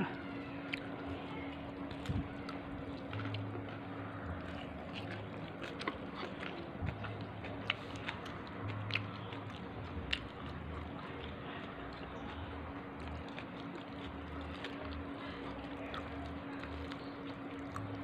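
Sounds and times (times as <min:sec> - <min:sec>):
person chewing: 0:00.0 - 0:18.0
steady low hum: 0:00.0 - 0:18.0.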